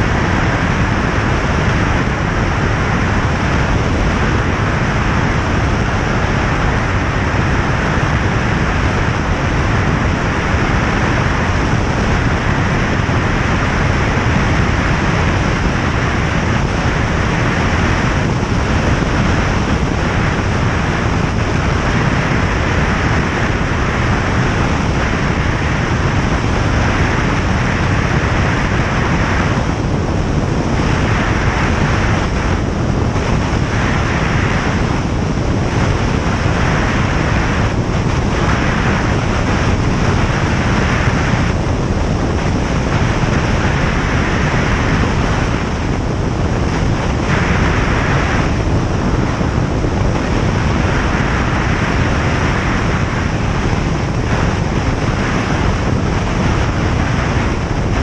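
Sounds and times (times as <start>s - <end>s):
light aircraft engine and propeller: 0.0s - 58.0s
rush of airflow: 0.0s - 58.0s.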